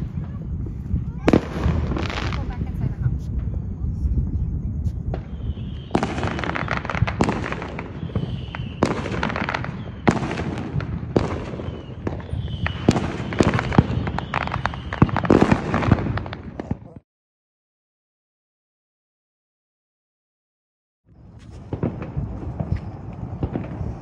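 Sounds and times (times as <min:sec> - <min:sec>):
fireworks bangs and crackling: 0:00.0 - 0:17.0, 0:21.1 - 0:24.0.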